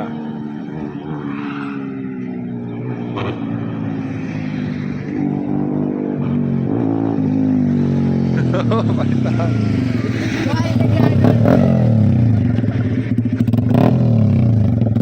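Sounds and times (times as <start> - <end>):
motorcycle engine approaching: 0.0 - 15.0.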